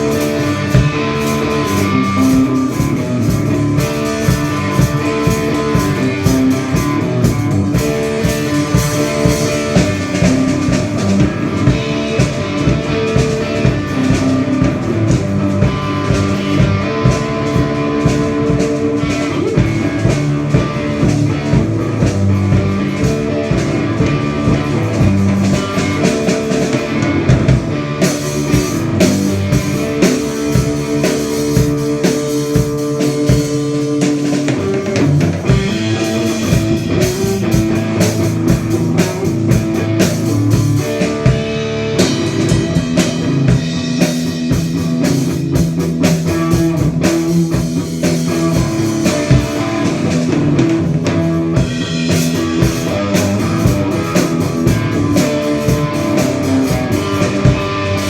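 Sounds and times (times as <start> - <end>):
drum kit: 0.0 - 58.0
guitar: 0.0 - 58.0.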